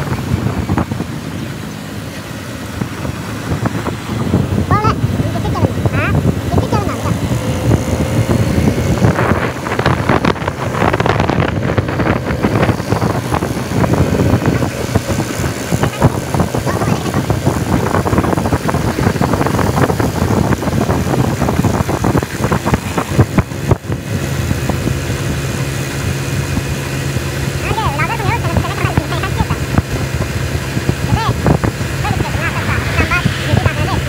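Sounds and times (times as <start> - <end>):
motorcycle engines running: 0.0 - 34.0
wind buffeting microphone: 0.0 - 34.0.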